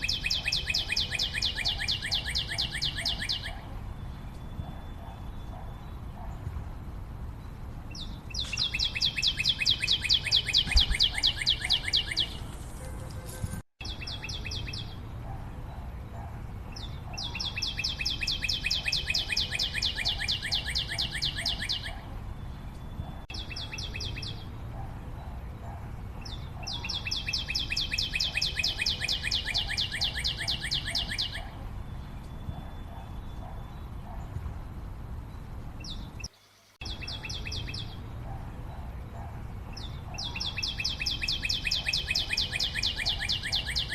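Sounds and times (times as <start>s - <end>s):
bird singing rapid trills: 0.0s - 6.4s, 7.4s - 12.5s, 13.8s - 15.9s, 16.7s - 43.9s.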